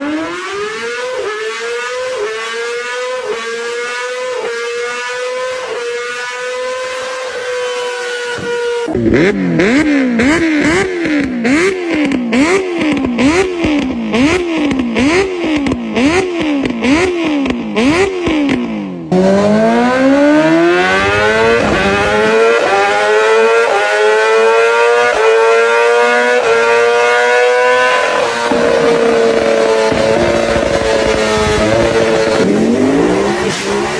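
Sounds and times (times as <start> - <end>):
motorcycle accelerating through gears: 0.0 - 33.9
motorcycle engine revving: 0.0 - 33.9.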